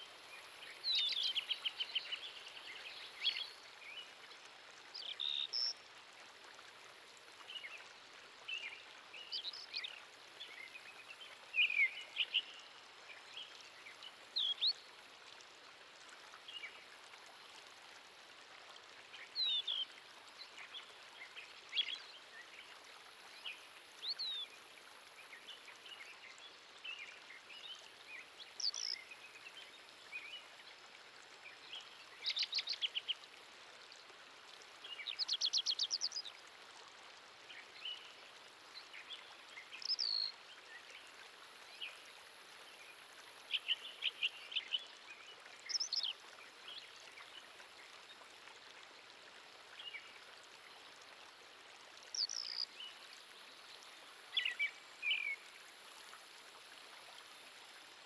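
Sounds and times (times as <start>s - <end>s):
steady outdoor hiss: 0.0s - 58.0s.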